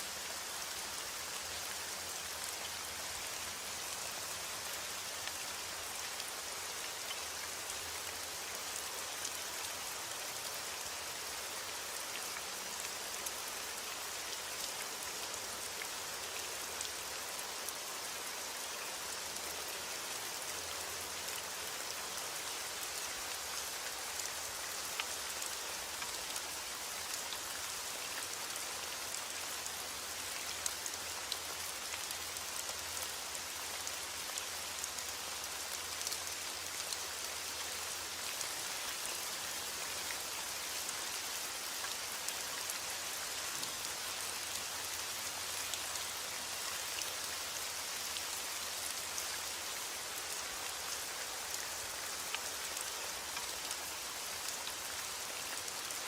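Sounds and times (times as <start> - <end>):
raindrops hitting a surface: 0.0 - 56.0.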